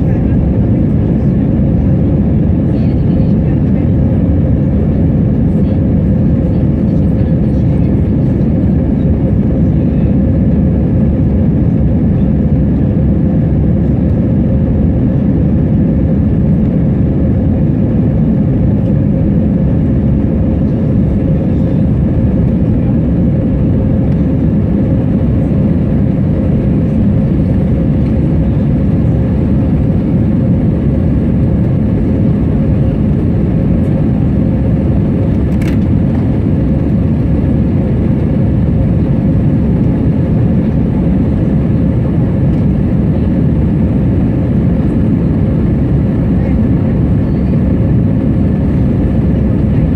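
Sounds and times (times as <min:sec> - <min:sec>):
airliner cabin engine rumble: 0:00.0 - 0:49.9
constant hum: 0:00.0 - 0:49.9.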